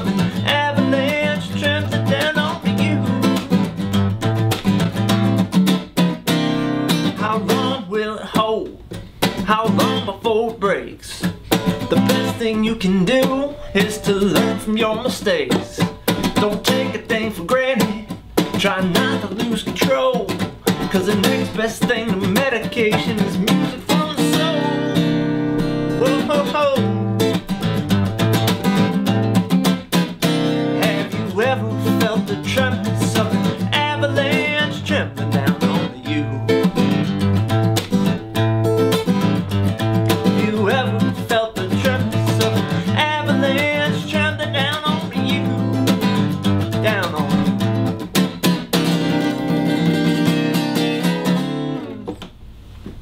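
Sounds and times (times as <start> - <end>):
acoustic guitar strumming: 0.0 - 52.8.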